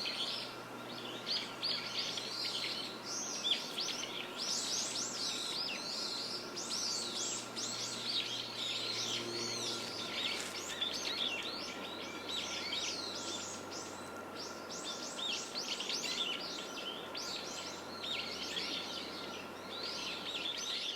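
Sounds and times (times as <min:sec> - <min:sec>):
faint steady hum: 0:00.0 - 0:20.9
small birds chirping: 0:00.0 - 0:20.9.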